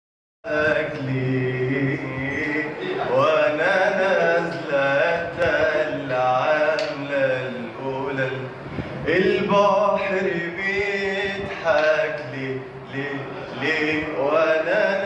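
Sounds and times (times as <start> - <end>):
man singing unaccompanied: 0.4 - 15.0.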